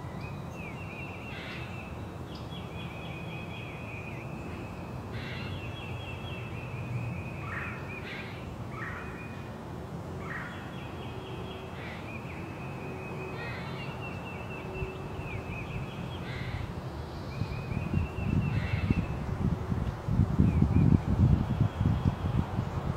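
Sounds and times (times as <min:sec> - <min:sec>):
birds singing high trills: 0:00.0 - 0:09.5, 0:10.2 - 0:19.3
low wind rumble: 0:00.0 - 0:22.9.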